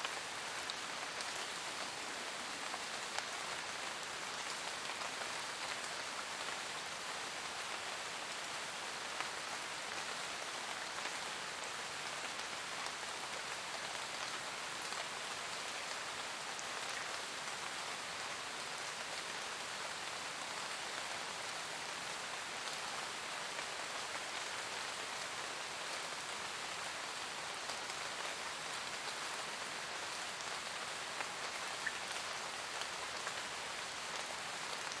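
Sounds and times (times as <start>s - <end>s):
rain on leaves: 0.0s - 35.0s.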